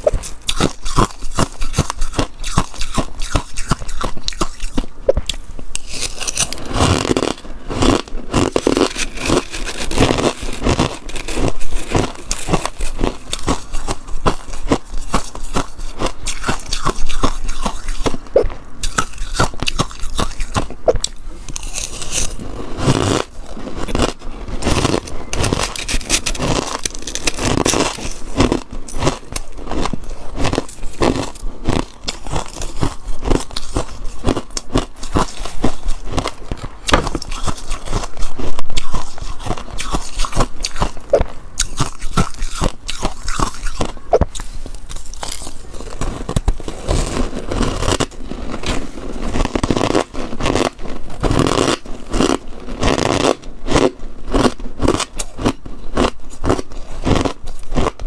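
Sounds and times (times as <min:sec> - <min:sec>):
frost being chewed: 0:00.0 - 0:58.0.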